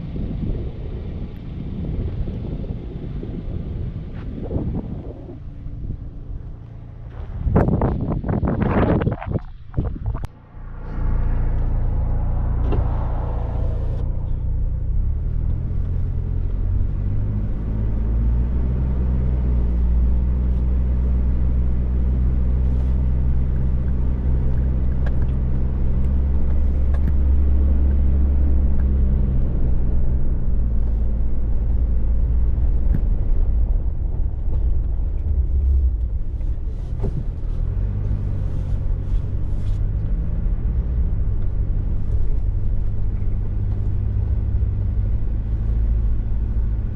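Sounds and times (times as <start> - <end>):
vehicle engine drone: 0.0 - 46.9.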